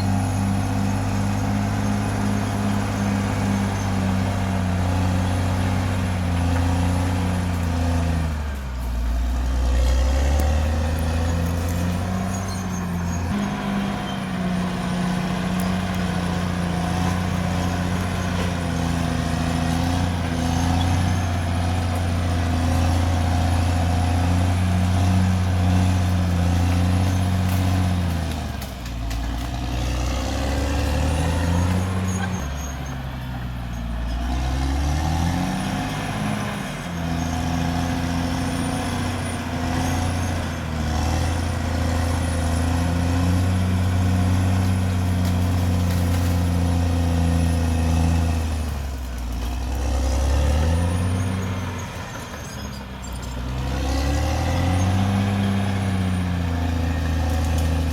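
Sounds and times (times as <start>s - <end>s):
bulldozer diesel engine revving: 0.0s - 57.9s.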